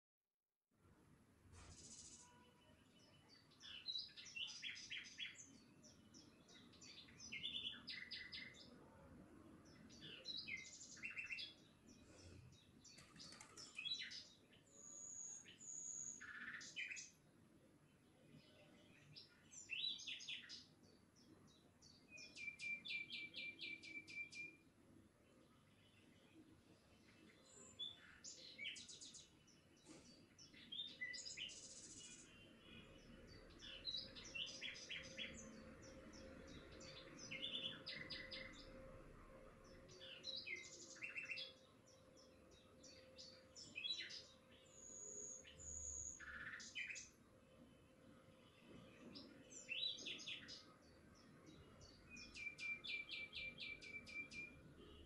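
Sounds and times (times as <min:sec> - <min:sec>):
small birds chirping: 0:01.5 - 0:55.0.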